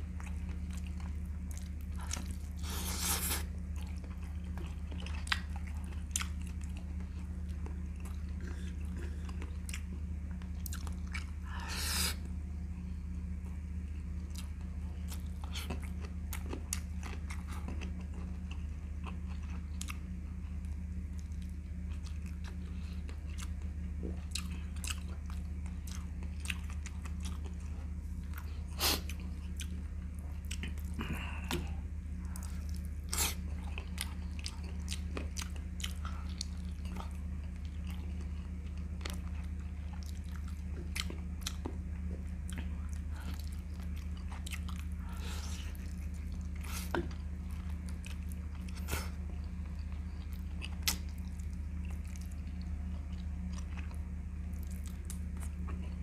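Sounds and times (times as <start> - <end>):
low hum: 0.0 - 56.0
man chewing and biting: 0.1 - 12.4, 14.0 - 56.0.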